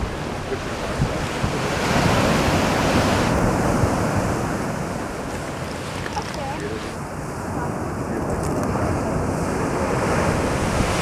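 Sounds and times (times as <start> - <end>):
ocean surf roaring: 0.0 - 11.0
wind buffeting microphone: 0.0 - 11.0.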